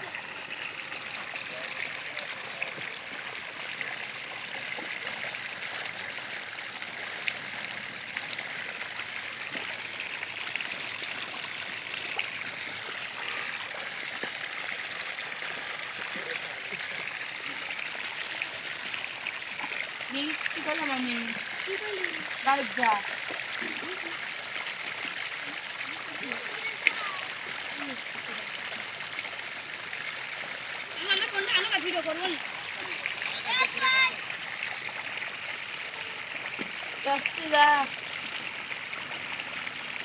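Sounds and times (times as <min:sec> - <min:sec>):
water gushing into pool: 0:00.0 - 0:40.0.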